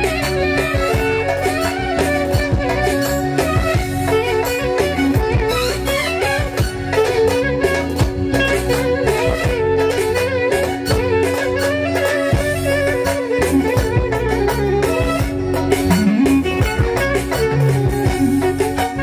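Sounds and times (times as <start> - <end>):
folk music with clarinet melody: 0.0 - 19.0.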